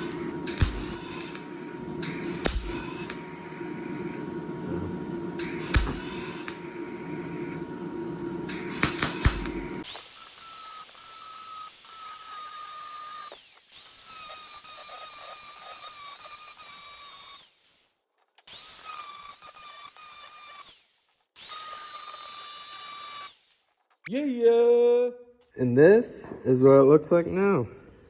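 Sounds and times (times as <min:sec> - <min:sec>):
power tool high whine: 0:00.0 - 0:17.9, 0:18.5 - 0:23.6.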